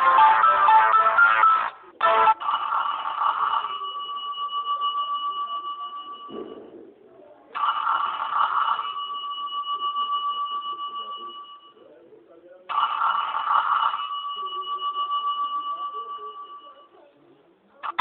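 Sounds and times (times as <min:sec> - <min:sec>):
electronic phone ringtone trilling: 0:00.0 - 0:06.4, 0:07.6 - 0:11.8, 0:12.7 - 0:16.9.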